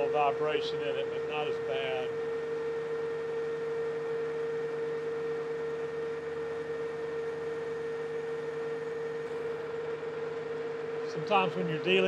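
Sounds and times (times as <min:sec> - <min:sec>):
metal lathe cutting with ringing tone: 0:00.0 - 0:12.0.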